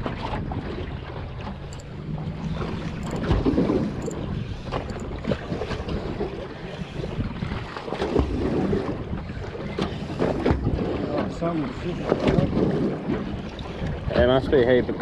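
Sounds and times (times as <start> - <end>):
water lapping against boat hull: 0.0 - 15.0
wind buffeting microphone: 0.0 - 15.0.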